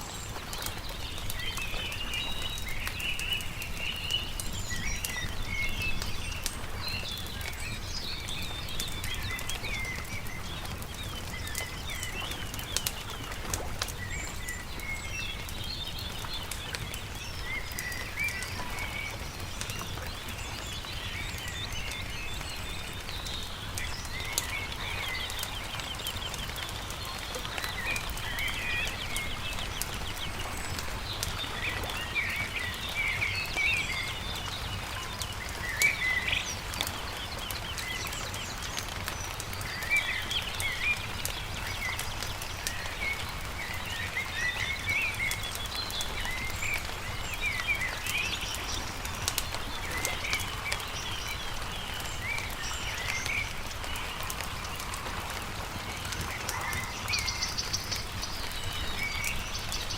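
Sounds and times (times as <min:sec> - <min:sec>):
campfire crackling: 0:00.0 - 0:59.9
songbirds chirping and singing: 0:00.0 - 0:59.9.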